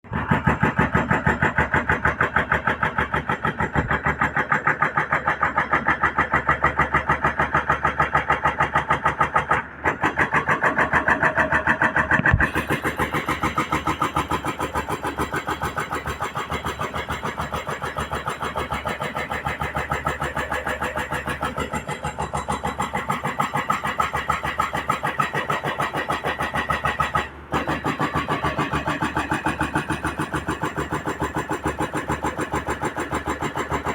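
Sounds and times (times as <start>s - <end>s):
diesel engine chugging: 0.1s - 33.9s.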